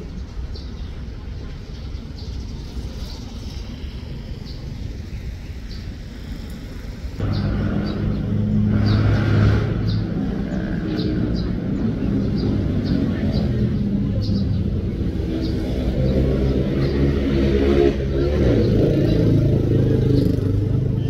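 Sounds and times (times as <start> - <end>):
low rumble of freight train: 0.0 - 17.2
diesel locomotive engine hum: 0.0 - 21.0.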